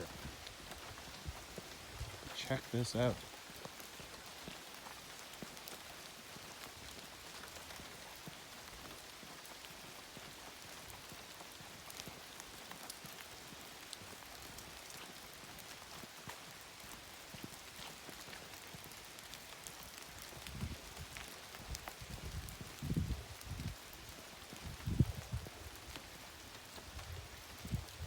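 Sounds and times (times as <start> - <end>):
rain hiss: 0.0 - 28.0
raindrops ticking: 0.0 - 28.0.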